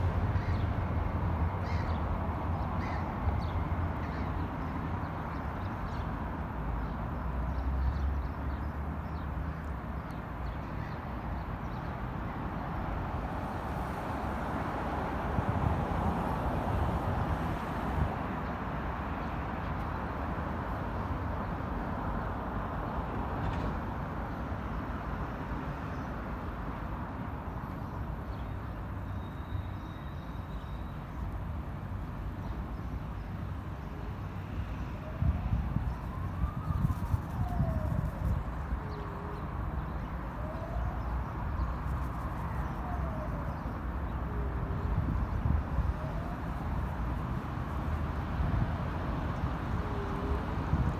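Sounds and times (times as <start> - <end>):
city traffic rumble: 0.0 - 50.9.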